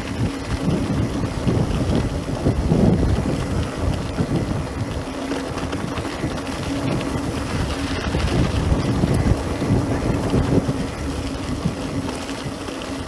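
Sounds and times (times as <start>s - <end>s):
bike tyres rolling on dirt: 0.0s - 13.0s
wind buffeting microphone: 0.0s - 13.0s.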